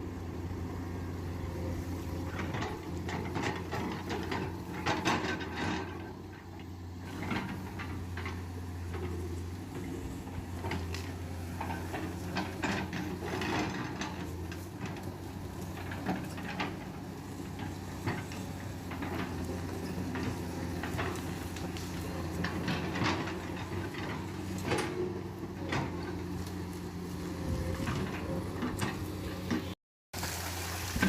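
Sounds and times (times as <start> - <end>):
diesel engine running: 0.0 - 29.8
irregular knocks and clatter: 1.2 - 29.8.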